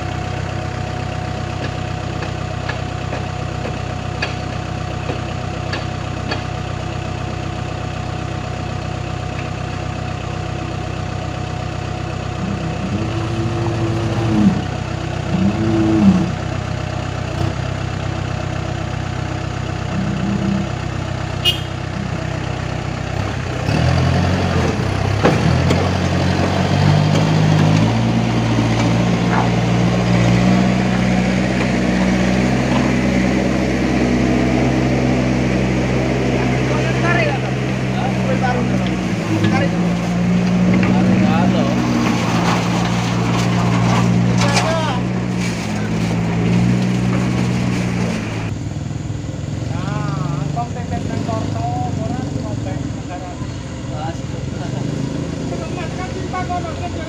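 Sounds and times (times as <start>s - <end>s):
diesel engines idling and revving: 0.0s - 57.0s.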